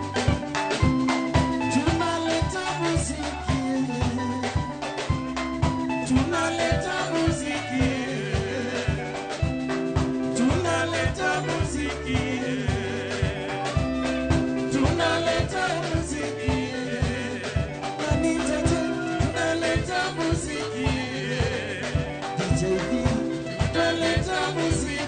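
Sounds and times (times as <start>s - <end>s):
bass guitar: 0.0s - 25.0s
drum kit beat: 0.0s - 25.0s
electric guitar: 0.0s - 25.0s
vocalists singing: 1.5s - 25.0s.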